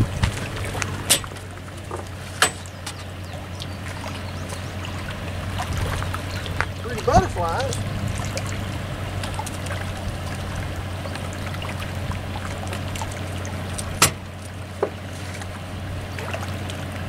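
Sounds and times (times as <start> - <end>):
low hum and hiss by water: 0.0 - 17.0.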